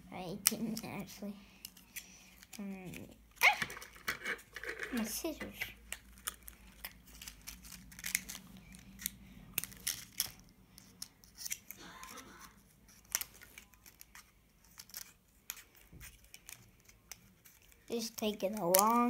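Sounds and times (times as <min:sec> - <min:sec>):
packaging crinkling and tearing: 0:01.6 - 0:05.1, 0:05.8 - 0:19.0.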